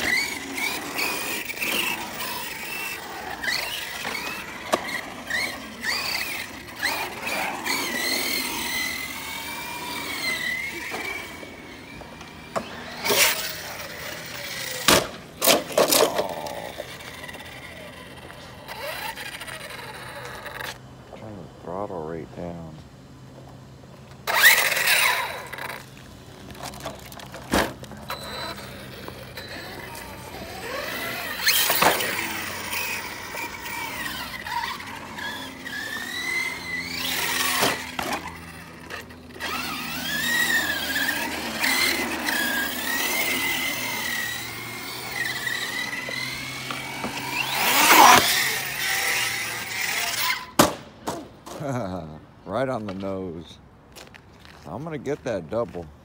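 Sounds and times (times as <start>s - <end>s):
tyres hitting ground: 0.0s - 20.7s, 24.2s - 51.9s
electric motor whining: 0.0s - 20.8s, 24.1s - 50.6s.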